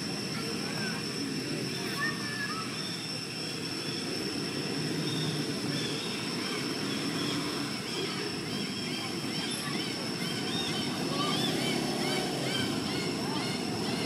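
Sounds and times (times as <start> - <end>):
constant high-pitched whine: 0.0 - 14.0.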